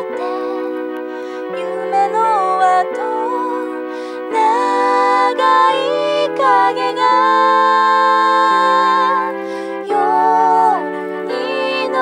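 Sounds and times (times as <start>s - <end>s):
slow gentle background music: 0.0s - 12.0s.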